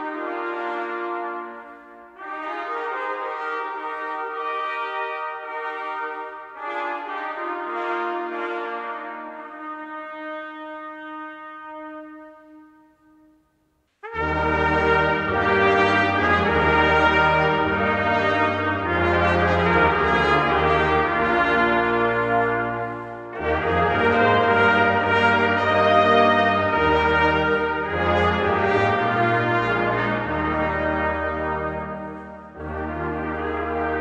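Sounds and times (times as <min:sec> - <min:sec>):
brass choir playing chords: 0:00.0 - 0:13.4, 0:14.0 - 0:34.0.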